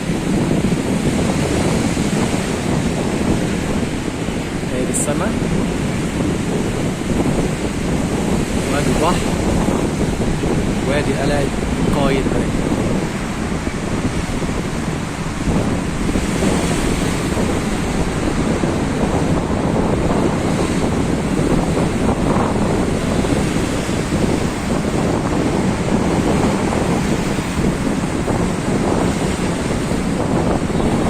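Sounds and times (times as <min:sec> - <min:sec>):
sea waves washing ashore: 0:00.0 - 0:31.0
wind buffeting microphone: 0:00.0 - 0:31.0.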